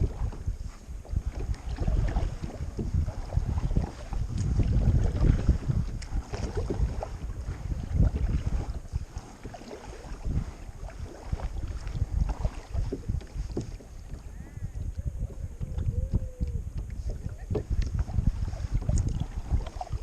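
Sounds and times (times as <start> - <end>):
paddle splashing in water: 0.0 - 20.0
wind on microphone: 0.0 - 20.0.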